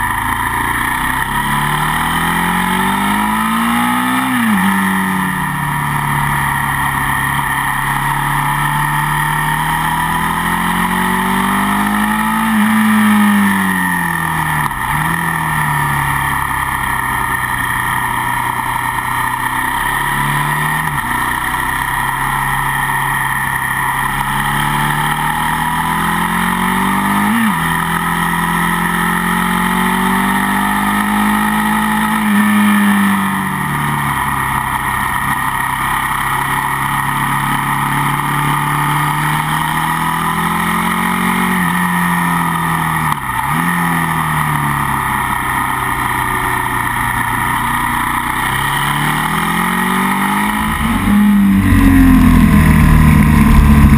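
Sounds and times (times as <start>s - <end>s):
motorcycle engines revving high: 0.0s - 53.9s.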